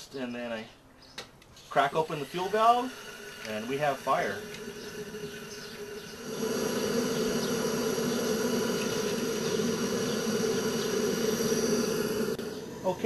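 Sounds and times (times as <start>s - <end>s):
pressurized burner buzzing hum: 1.7s - 13.0s.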